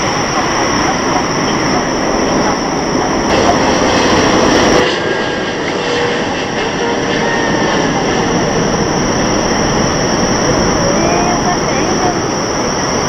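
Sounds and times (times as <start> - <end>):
jet engine noise on approach: 0.0 - 13.0
jet engines rumbling: 0.0 - 13.0.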